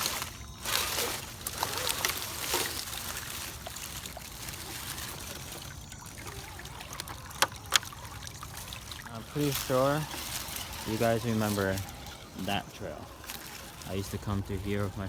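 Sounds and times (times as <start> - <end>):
footsteps crunching on trail: 0.0 - 15.0
stream water trickling: 0.0 - 15.0.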